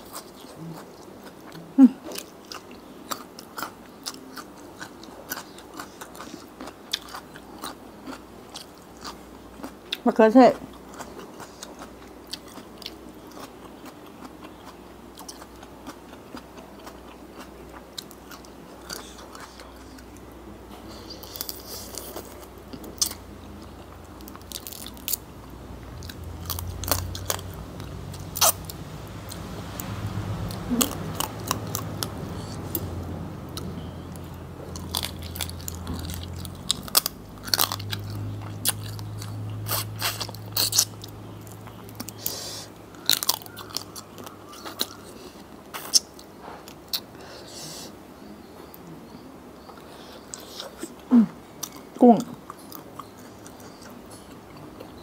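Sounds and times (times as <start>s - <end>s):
crunchy chewing: 0.0s - 47.2s, 49.6s - 55.0s.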